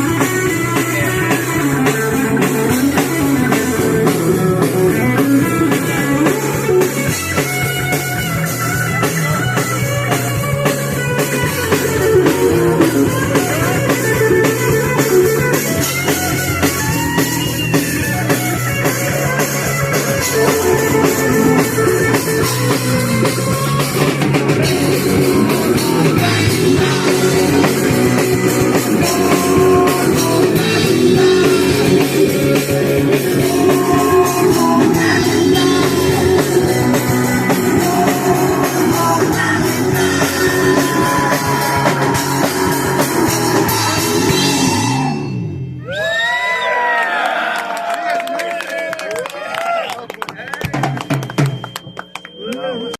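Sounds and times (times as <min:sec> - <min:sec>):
punk rock band playing: 0:00.0 - 0:46.0, 0:50.5 - 0:52.4.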